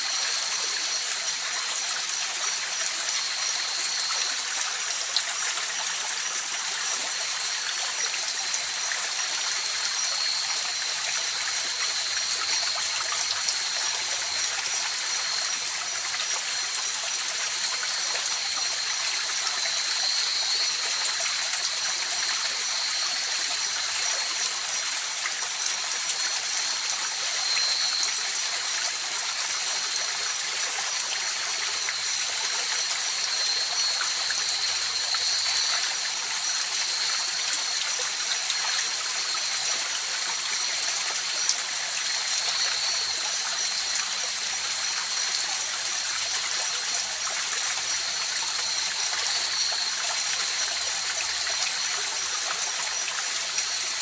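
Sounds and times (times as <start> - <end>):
night insects droning: 0.0 - 54.0.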